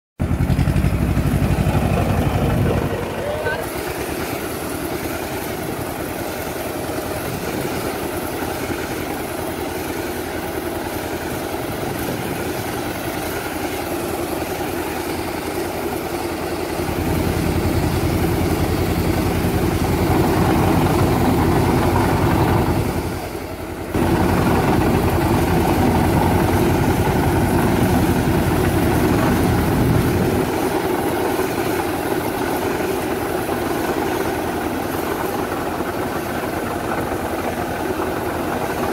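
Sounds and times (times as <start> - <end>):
tractor engine running: 0.2 - 38.9.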